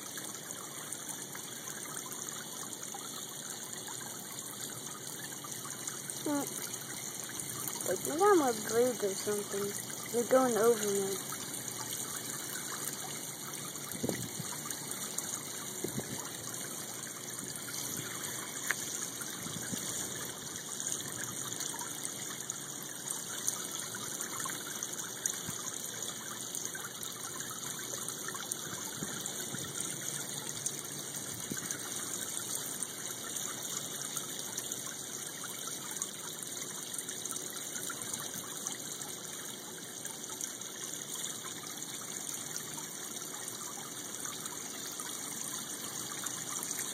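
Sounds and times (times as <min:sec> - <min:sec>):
water trickling in a pond: 0:00.0 - 0:46.9.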